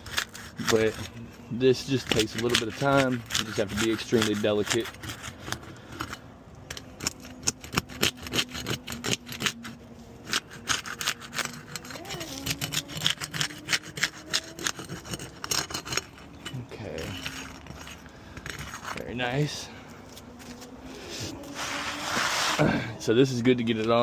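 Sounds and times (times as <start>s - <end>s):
pry bar scraping shingles: 0.0s - 19.6s.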